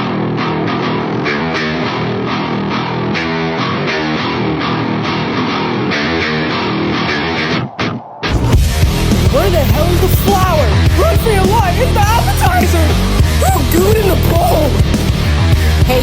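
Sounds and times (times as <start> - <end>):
guitar-led music: 0.0 - 16.0.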